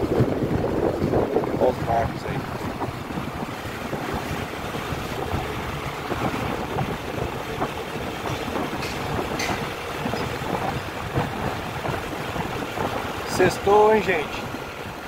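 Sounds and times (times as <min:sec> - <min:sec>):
road and traffic noise: 0:00.0 - 0:15.0
wind buffeting microphone: 0:00.0 - 0:15.0.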